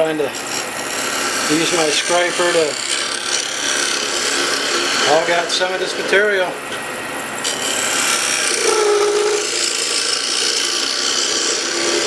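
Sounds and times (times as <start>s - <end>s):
lathe scraper rasping wood: 0.0s - 6.3s, 7.4s - 12.0s.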